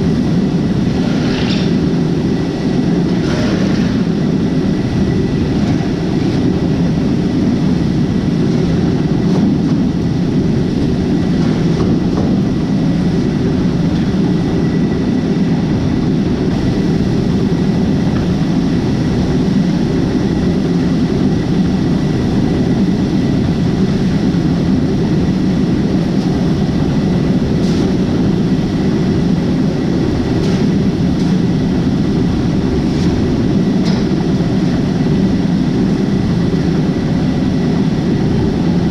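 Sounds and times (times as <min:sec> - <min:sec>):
farm machinery low drone: 0:00.0 - 0:38.9.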